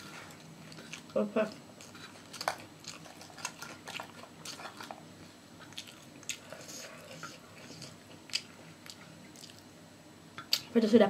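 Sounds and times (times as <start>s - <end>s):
person chewing with wet smacks: 0.0s - 9.7s.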